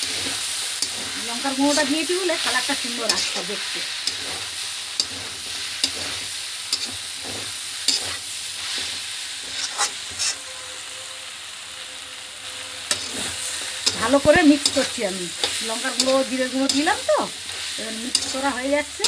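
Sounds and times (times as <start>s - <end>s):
metal spatula scraping a pan: 0.0s - 11.2s, 12.4s - 19.0s
vegetables sizzling in hot oil: 0.0s - 19.0s.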